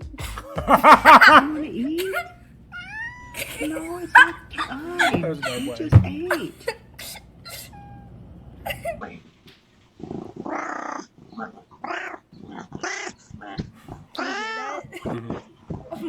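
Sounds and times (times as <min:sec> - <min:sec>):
cat meowing: 0:00.0 - 0:09.2, 0:10.5 - 0:15.0
people's voices: 0:00.0 - 0:09.3, 0:12.4 - 0:16.0.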